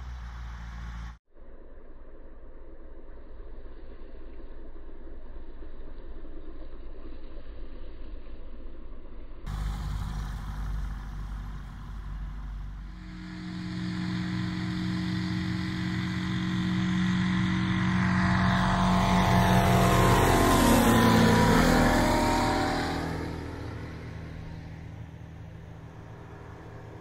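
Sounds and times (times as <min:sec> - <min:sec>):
light aircraft engine and propeller: 0:00.0 - 0:27.0.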